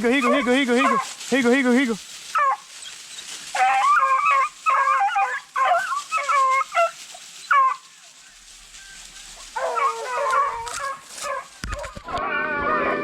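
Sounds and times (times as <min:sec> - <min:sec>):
beagles baying: 0:00.0 - 0:13.0.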